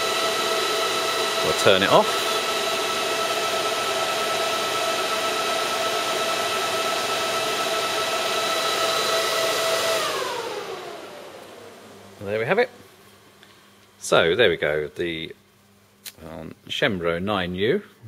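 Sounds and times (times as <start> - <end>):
server cooling fans whining: 0.0 - 18.0.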